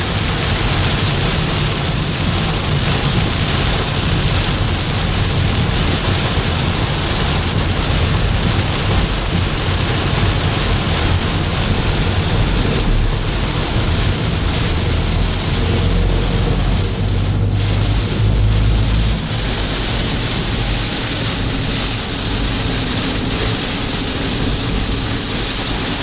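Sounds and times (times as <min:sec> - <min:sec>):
low road noise rumbling: 0:00.0 - 0:26.0
rain on car: 0:00.0 - 0:26.0.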